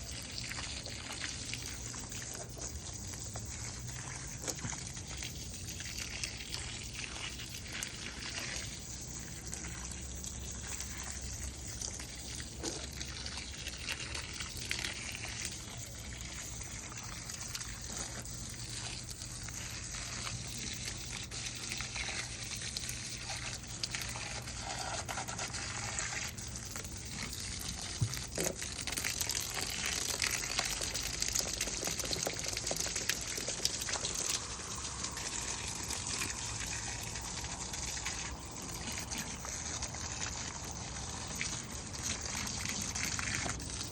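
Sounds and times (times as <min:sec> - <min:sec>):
water spraying onto plants: 0:00.0 - 0:43.9.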